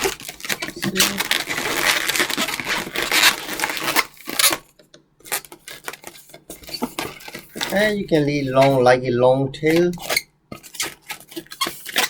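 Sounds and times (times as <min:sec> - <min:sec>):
rubber balloon rubbing and crinkling: 0:00.0 - 0:09.0, 0:09.6 - 0:12.0.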